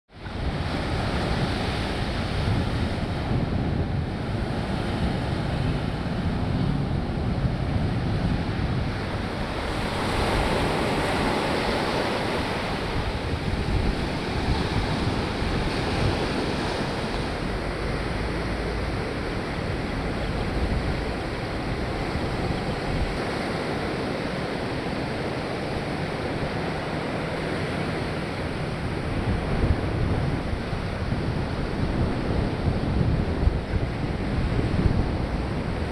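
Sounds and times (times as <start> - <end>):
ocean surf breaking on beach: 0.1 - 35.9
wind: 0.1 - 35.9.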